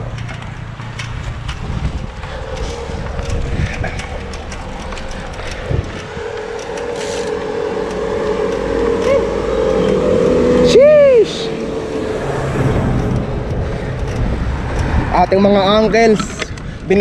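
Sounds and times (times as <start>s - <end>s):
vehicle engine hum: 0.0s - 17.0s
wind rushing over microphone: 0.0s - 17.0s.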